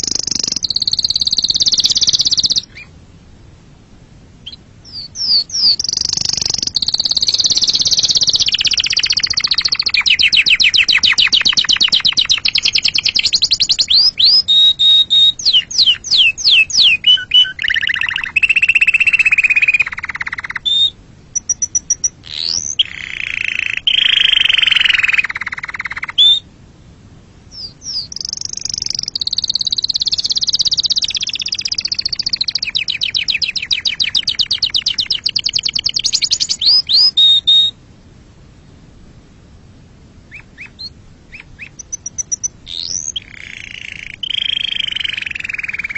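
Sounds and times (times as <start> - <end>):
canary singing trills: 0.0 - 3.0, 4.4 - 26.5, 27.5 - 37.8, 40.3 - 45.9.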